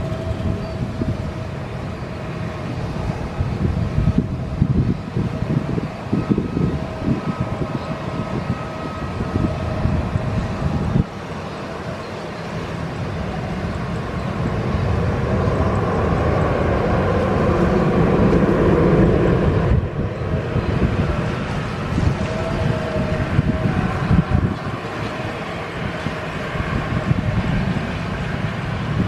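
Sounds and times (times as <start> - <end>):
faint engine whine: 0.0 - 29.0
jet engines running: 0.0 - 29.0
wind buffeting microphone: 0.0 - 29.0.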